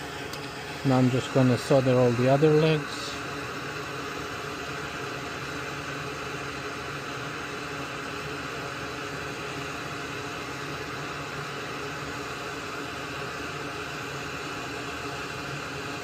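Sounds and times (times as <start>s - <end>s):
faint hum: 0.0s - 16.0s
fan-like hiss: 0.0s - 16.0s.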